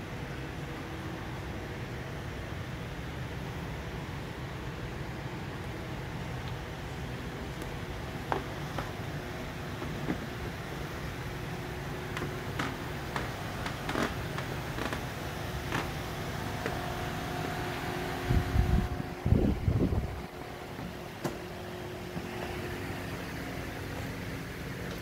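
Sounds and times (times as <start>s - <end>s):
ventilation hum: 0.0s - 25.0s.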